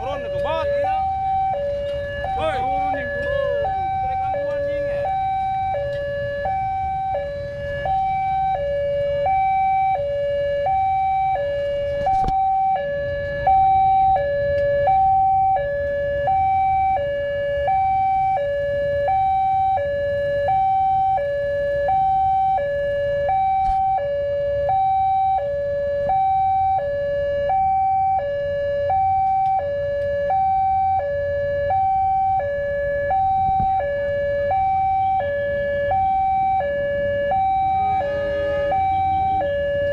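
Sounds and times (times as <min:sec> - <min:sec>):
level-crossing two-tone alarm bell: 0:00.0 - 0:11.8, 0:12.6 - 0:39.9.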